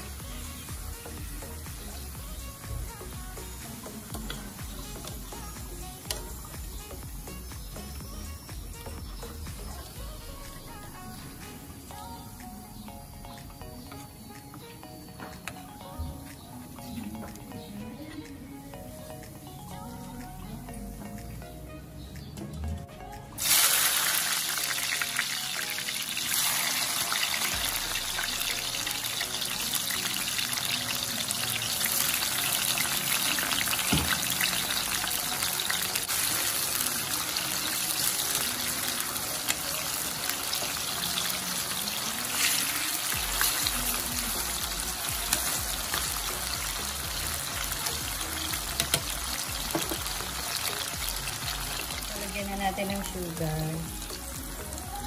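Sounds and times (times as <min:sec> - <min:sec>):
potato slices sizzling in oil: 0:00.0 - 0:12.8, 0:23.4 - 0:55.0.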